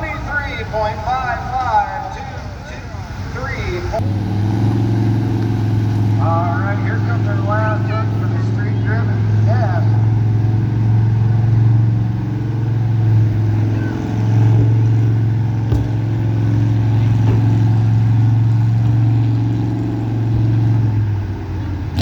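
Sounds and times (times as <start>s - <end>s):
pickup truck engine under load: 0.0s - 22.0s.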